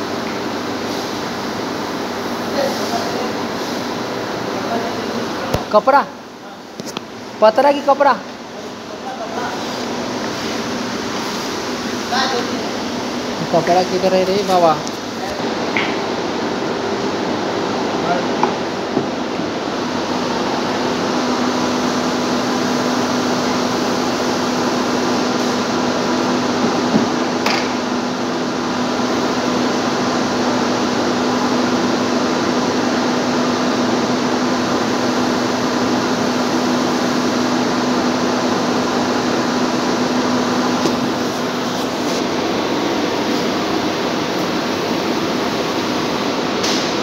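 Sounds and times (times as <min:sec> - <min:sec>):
steady machine hum: 0:00.0 - 0:47.0.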